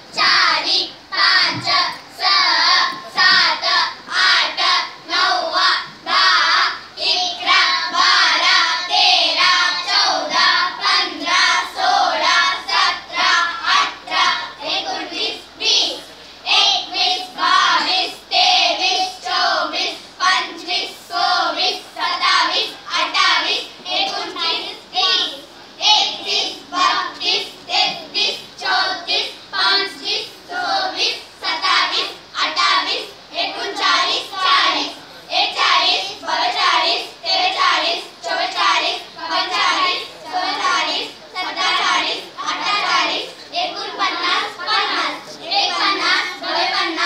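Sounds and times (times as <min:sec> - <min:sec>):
child chanting in sing-song voice: 0:00.0 - 0:47.0.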